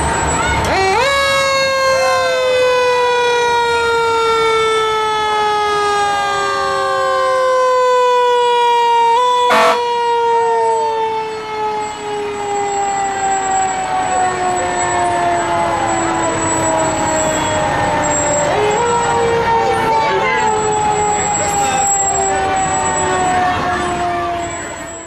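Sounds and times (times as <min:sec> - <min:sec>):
fire truck siren: 0:00.0 - 0:25.0.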